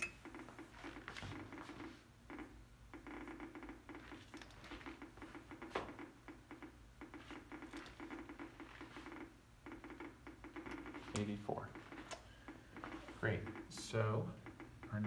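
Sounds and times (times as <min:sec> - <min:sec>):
geiger counter clicking: 0:02.3 - 0:15.0.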